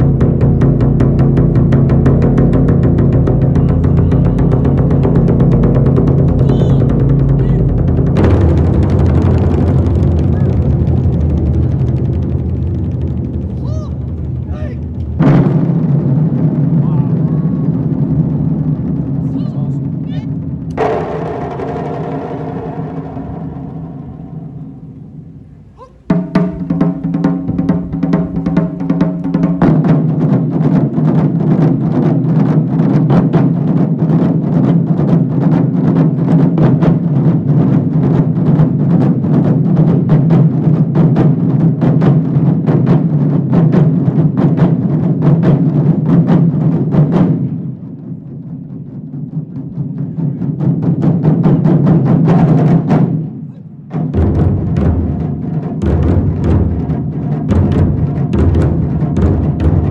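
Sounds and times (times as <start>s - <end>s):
deep drum thumps: 0.0s - 47.9s, 48.5s - 59.9s
taiko drum ensemble playing: 0.0s - 59.9s.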